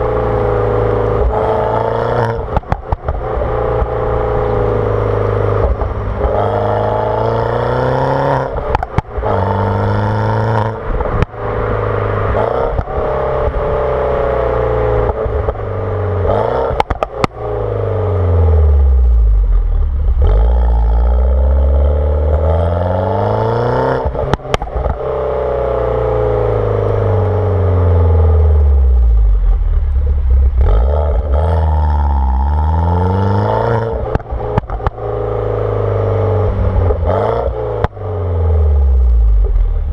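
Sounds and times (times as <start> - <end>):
car engine accelerating through gears: 0.0 - 39.9
exhaust pops and crackles: 0.9 - 4.7, 5.5 - 11.4, 12.3 - 14.1, 14.8 - 17.6, 19.0 - 38.1, 38.9 - 39.9.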